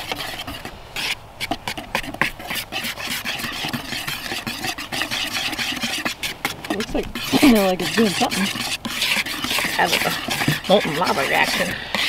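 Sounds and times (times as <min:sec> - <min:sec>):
whisk scraping plastic bowl: 0:00.0 - 0:12.0.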